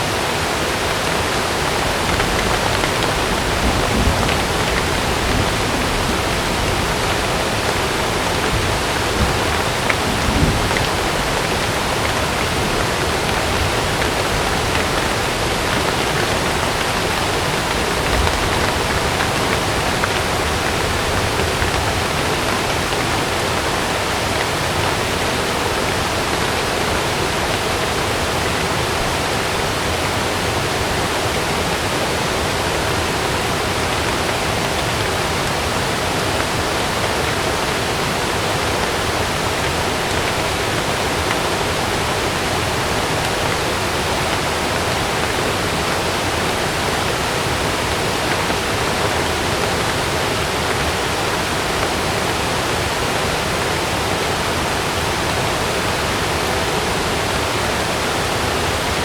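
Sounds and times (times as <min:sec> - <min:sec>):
heavy rain: 0:00.0 - 0:59.0
rushing water: 0:00.0 - 0:59.0.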